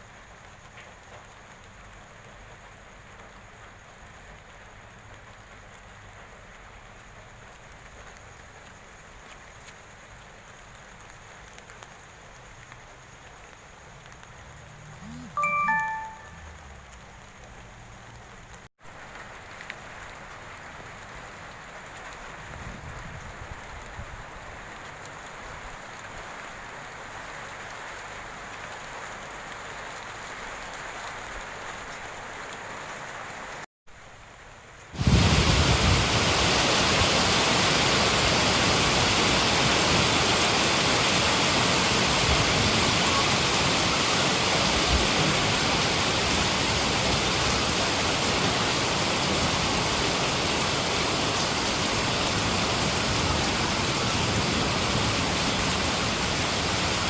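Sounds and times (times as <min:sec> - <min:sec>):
heavy downpour: 0:00.0 - 0:57.0
rain falling: 0:00.0 - 0:57.0.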